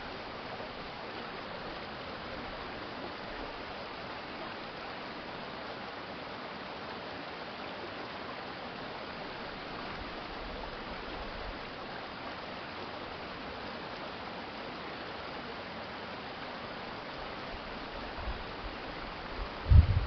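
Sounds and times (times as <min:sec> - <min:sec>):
stream flowing: 0:00.0 - 0:20.0.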